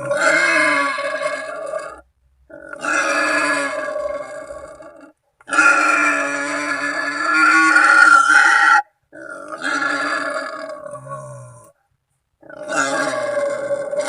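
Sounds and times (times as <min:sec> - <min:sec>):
boar call squeals and grunts: 0:00.0 - 0:11.7, 0:12.4 - 0:14.0.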